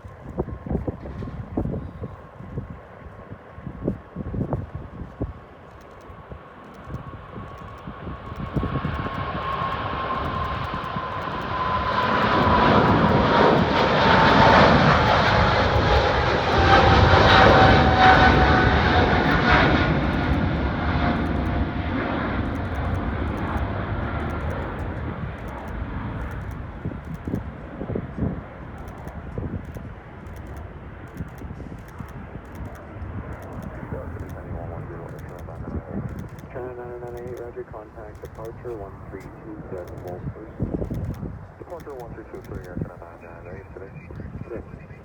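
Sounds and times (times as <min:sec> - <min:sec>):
jet engines roaring: 0:00.0 - 0:45.0.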